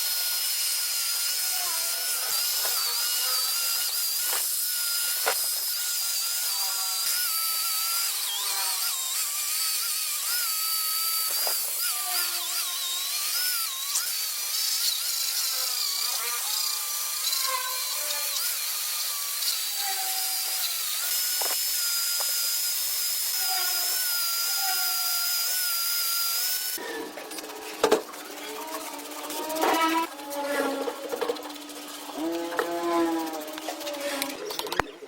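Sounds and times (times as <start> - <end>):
power tool motor whining: 0.0 - 34.9.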